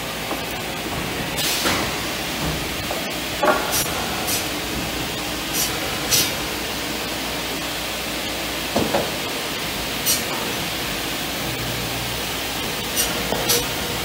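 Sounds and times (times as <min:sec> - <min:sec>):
machinery noise: 0:00.0 - 0:14.0.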